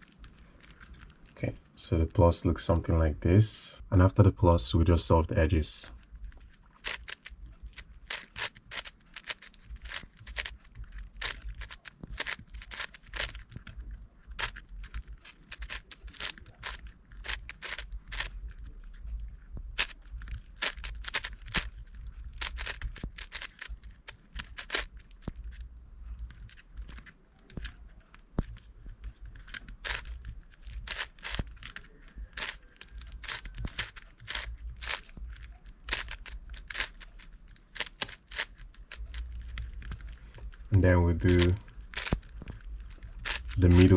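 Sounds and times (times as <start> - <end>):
puzzle cube layers clicking: 5.9 - 43.9.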